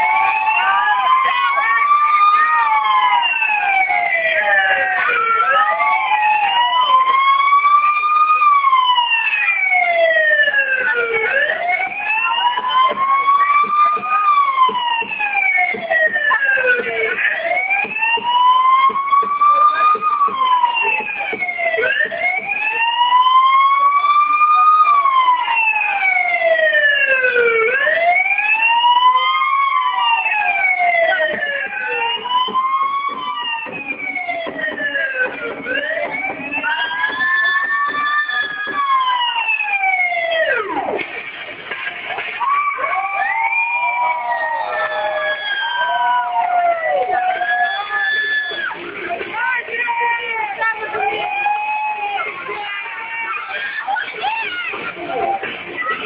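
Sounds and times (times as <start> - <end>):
wailing siren: 0.0 - 56.0.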